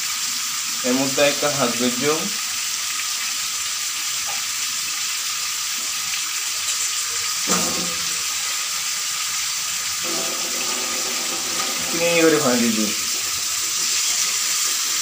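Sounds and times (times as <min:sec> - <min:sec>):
fish frying in oil: 0:00.0 - 0:15.0.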